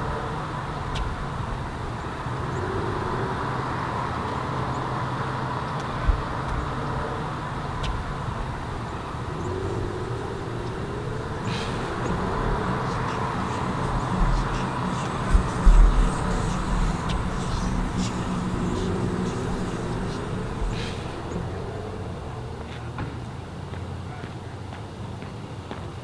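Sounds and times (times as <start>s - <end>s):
car driving rumble: 0.0s - 25.8s.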